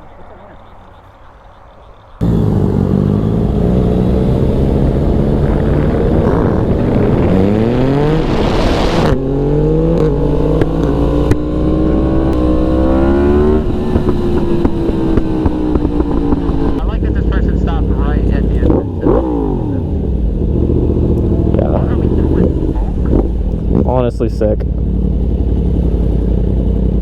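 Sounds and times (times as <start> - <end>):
motorcycle engine accelerating: 2.2 - 27.0.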